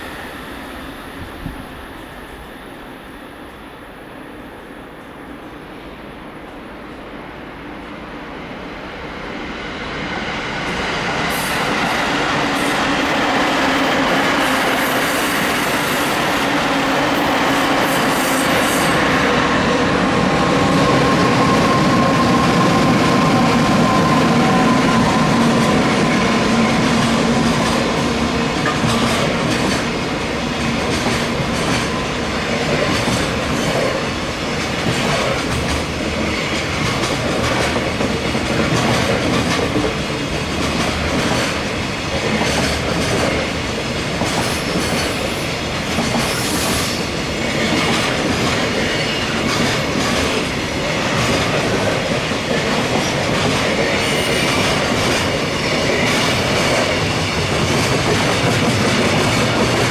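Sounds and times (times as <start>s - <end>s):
train wheels clattering: 11.4s - 59.9s.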